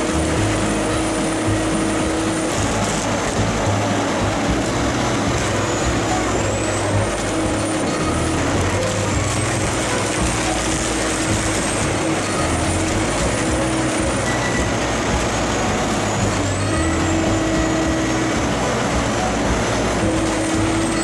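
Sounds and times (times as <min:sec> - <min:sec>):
dense grinding noise: 0:00.0 - 0:21.0
diesel engine drone: 0:00.0 - 0:21.0
thin high wavering whine: 0:00.0 - 0:21.0.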